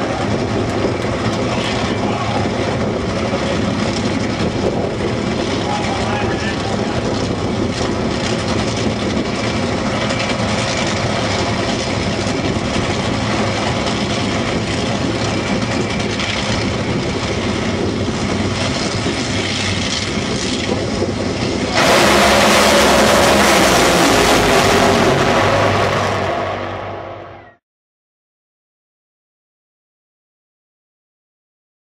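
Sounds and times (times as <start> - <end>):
wind on microphone: 0.0 - 26.7
dragster engines running: 0.0 - 27.5.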